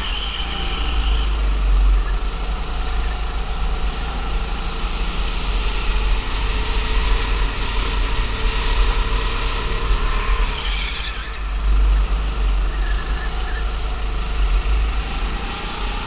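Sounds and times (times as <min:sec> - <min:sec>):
go-kart engine running: 0:00.0 - 0:16.0.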